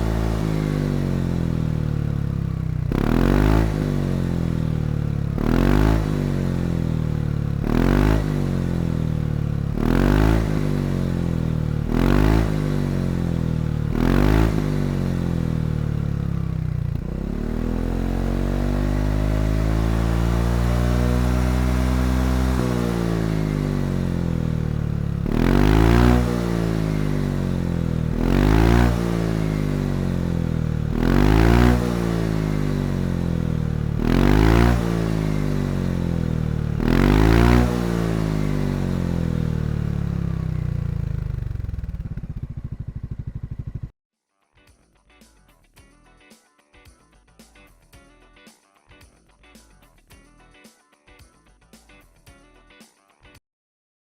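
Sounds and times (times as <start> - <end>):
scooter engine idling and revving: 0.0 - 44.0.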